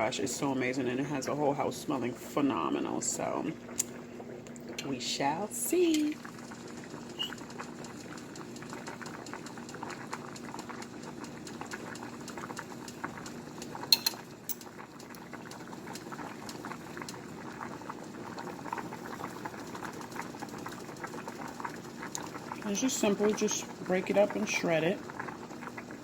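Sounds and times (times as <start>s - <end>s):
liquid bubbling in a pot: 0.0s - 26.0s.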